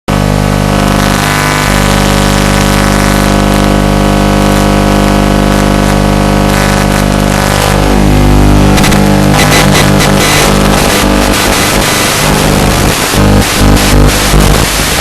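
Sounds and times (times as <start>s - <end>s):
drone motors humming: 0.2s - 15.0s.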